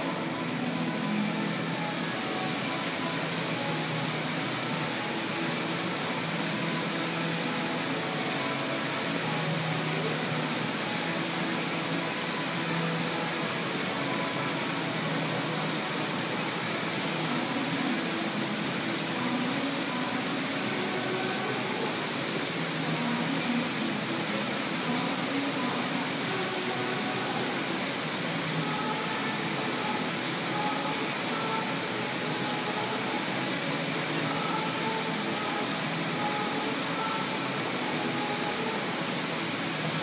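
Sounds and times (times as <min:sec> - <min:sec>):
fountain jets splashing: 0:00.0 - 0:40.0.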